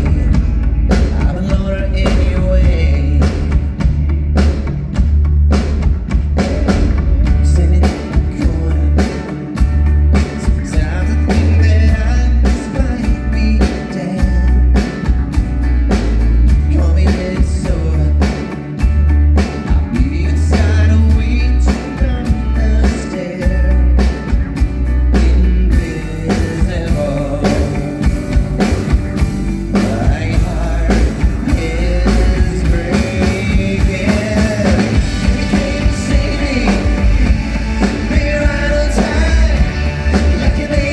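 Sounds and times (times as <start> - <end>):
drum kit beat: 0.0 - 40.9
heavy bass line: 0.0 - 40.9
rock band playing: 0.0 - 40.9.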